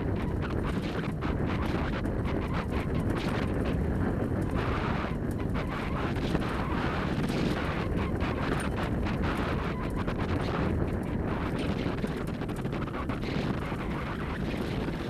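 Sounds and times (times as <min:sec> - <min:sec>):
faint ticks of grit: 0:00.0 - 0:15.0
sled rig rumbling on dirt trail: 0:00.0 - 0:15.0
wind on microphone: 0:00.0 - 0:15.0.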